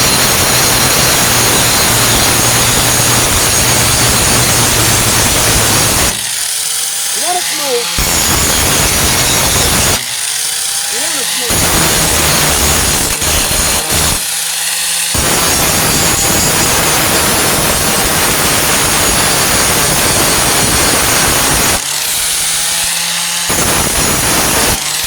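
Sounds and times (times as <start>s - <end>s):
angle grinder grinding metal: 0.0s - 25.0s
grinder motor spinning free: 0.0s - 25.0s.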